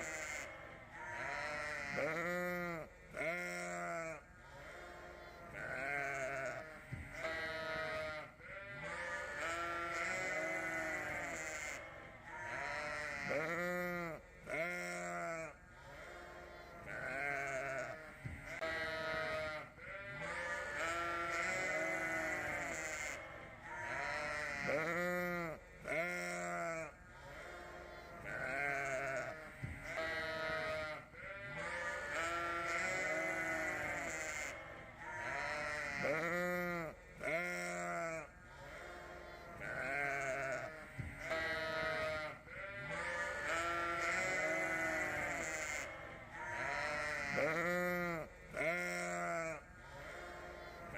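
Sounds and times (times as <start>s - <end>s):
lambs bleating: 0.0s - 50.9s.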